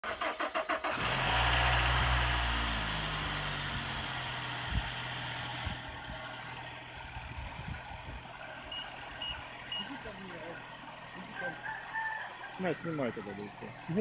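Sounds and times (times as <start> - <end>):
car engine fast idle: 0.0 - 11.5.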